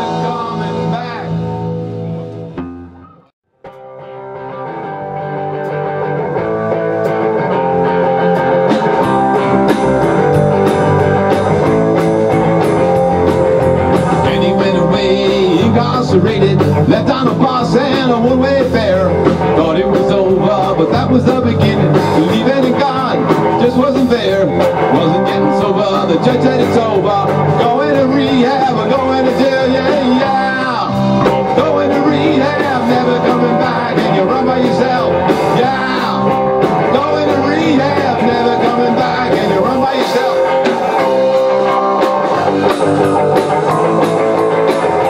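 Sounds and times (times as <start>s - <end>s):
ringing guitar chords: 0.0s - 45.0s
rock band playing live: 0.0s - 45.0s.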